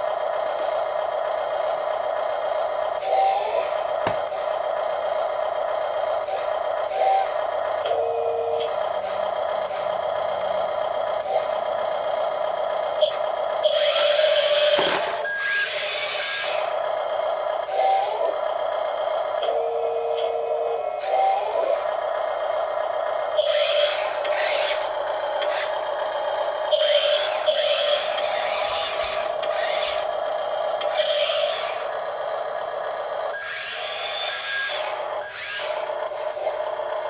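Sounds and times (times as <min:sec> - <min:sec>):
small electric motors whining: 0:00.1 - 0:37.0.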